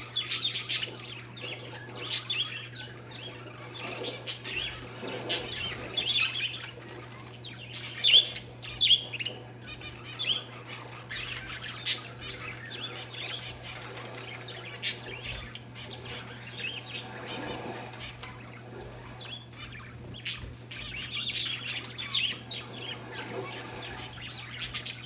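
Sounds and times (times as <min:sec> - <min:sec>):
birds chirping: 0:00.0 - 0:25.0
sharp bird calls: 0:00.0 - 0:25.0
steady low hum: 0:00.0 - 0:25.0.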